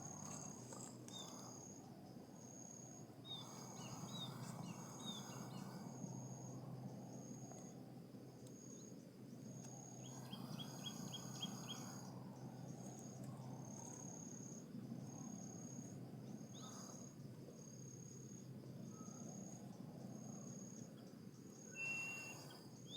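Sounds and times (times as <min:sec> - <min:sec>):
insect chirping: 0:00.0 - 0:22.9.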